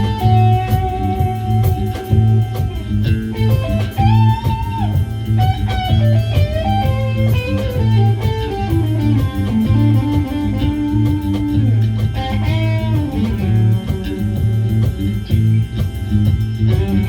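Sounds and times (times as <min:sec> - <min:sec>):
bass notes: 0:00.0 - 0:17.0
drum beat: 0:00.0 - 0:17.0
electric guitar melody: 0:00.0 - 0:17.0.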